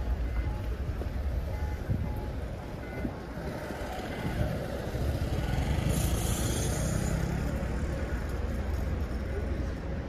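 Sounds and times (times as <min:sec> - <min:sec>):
low rumble of vehicles: 0:00.0 - 0:10.0.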